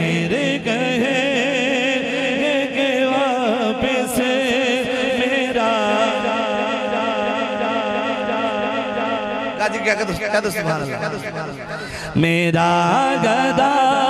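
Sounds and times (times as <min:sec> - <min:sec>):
man singing devotional song: 0:00.0 - 0:14.0.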